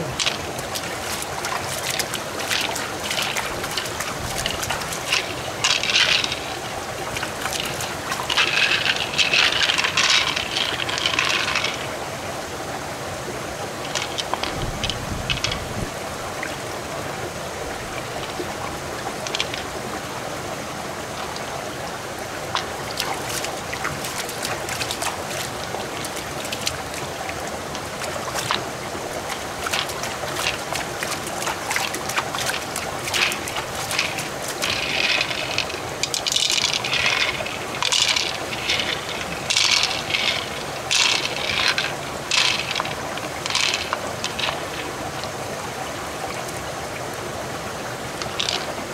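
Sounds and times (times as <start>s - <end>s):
stream trickling over rocks: 0.0s - 48.9s.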